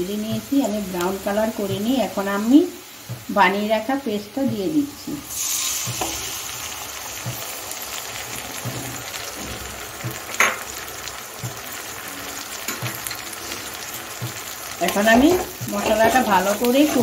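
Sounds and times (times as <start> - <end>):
spice paste sizzling in oil: 0.0 - 17.0.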